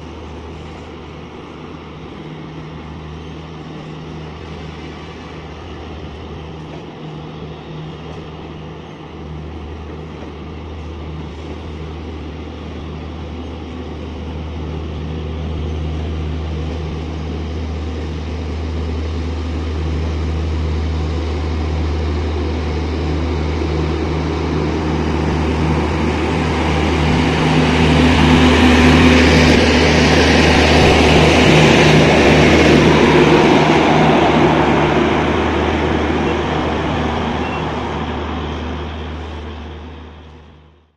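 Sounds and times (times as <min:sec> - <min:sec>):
diesel generators humming: 0:00.0 - 0:40.9
train coaches rolling on track: 0:00.0 - 0:40.9.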